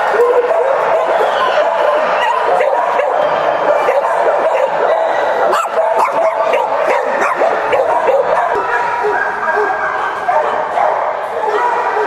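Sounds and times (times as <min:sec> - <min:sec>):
many dogs barking and whining: 0:00.0 - 0:12.0.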